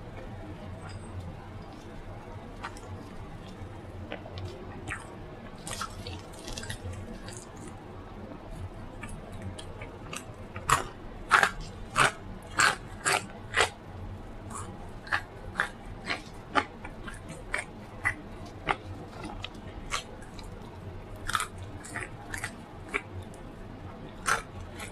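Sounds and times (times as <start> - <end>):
person chewing food: 0.2 - 7.8, 8.5 - 13.8, 14.5 - 23.4, 24.0 - 24.9.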